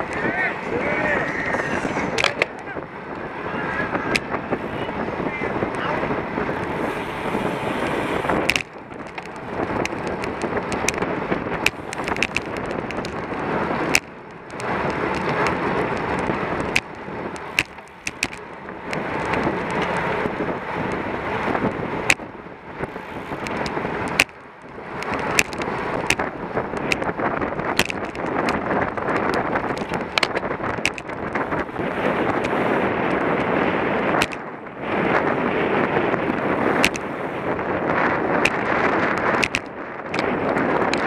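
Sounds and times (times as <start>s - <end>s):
bike clicks and knocks: 0.0s - 0.6s, 1.2s - 5.0s, 5.6s - 41.0s
tyres rolling on asphalt: 0.0s - 41.0s
wind rushing over microphone: 0.0s - 41.0s.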